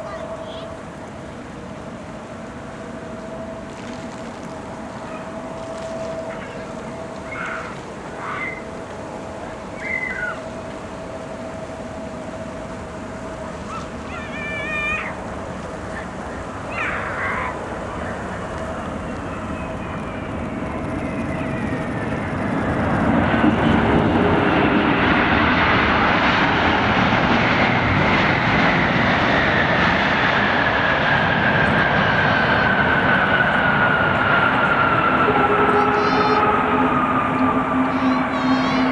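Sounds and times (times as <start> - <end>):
jet engines roaring with high whine: 0.0 - 38.9.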